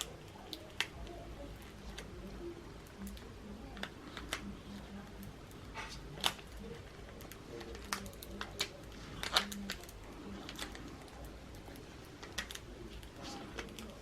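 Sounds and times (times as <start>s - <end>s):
tape and paper crinkling: 0.0s - 14.0s.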